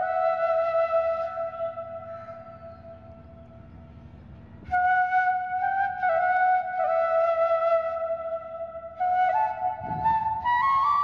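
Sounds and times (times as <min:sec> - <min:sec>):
flute-like melody: 0:00.0 - 0:03.6, 0:04.6 - 0:11.0.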